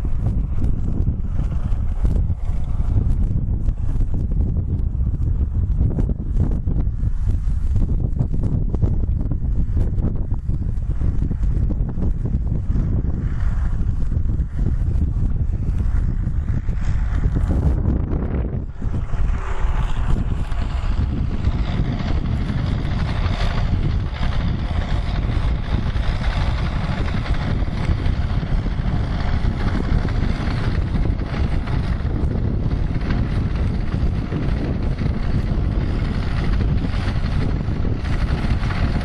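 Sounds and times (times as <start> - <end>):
tractor diesel engine under load: 0.0 - 39.0
wind noise on microphone: 0.0 - 39.0.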